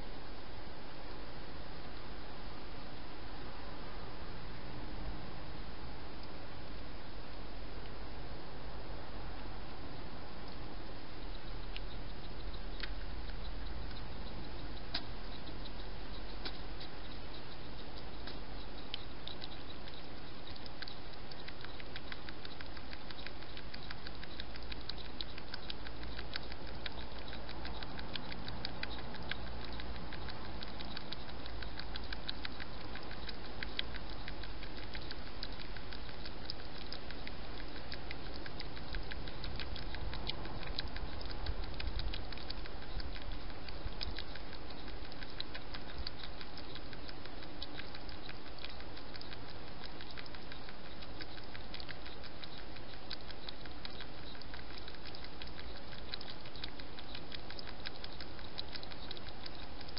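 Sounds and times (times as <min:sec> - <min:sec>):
hedgehog eating clicking mouth sounds: 0:09.4 - 0:59.9.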